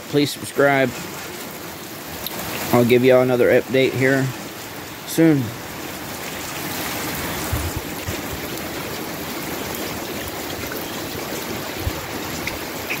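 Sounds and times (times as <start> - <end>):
heavy rain in wind: 0.0 - 13.0.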